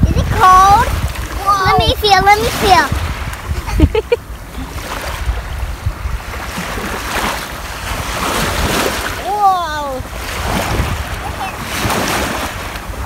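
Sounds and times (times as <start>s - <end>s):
waves washing on shore: 0.0s - 13.0s
wind rumbling on microphone: 0.0s - 13.0s.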